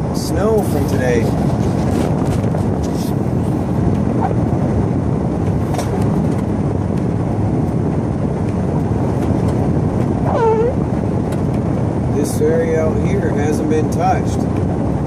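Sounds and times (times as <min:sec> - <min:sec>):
truck engine low rumble: 0:00.0 - 0:15.0.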